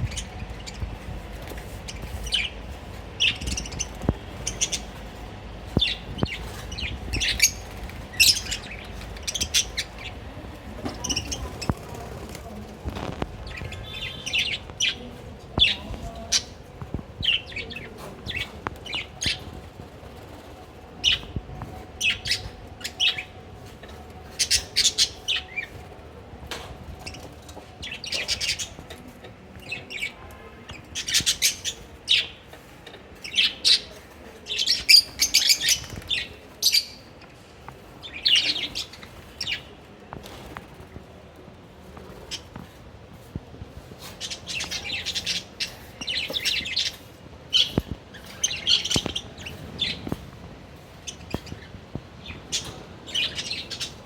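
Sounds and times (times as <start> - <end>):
lovebirds chirping: 0.0 - 40.9, 42.0 - 54.0.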